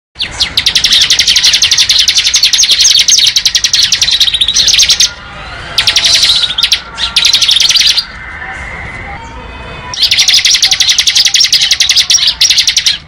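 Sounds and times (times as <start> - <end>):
bird singing rapid trill: 0.2 - 8.3, 9.2 - 13.0.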